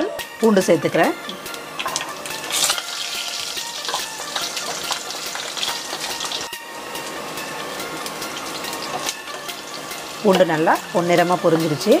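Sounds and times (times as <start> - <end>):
garlic sizzling in hot oil: 0.9 - 12.0.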